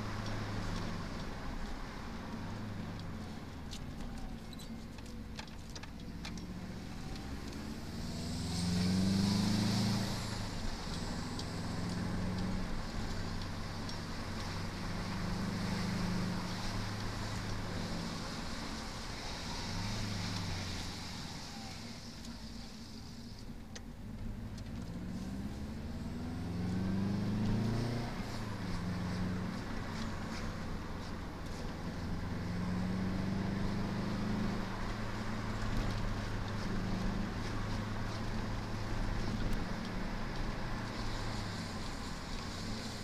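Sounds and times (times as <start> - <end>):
tyre and road noise: 0.0 - 43.0
car engine revving: 5.8 - 23.2, 24.0 - 43.0.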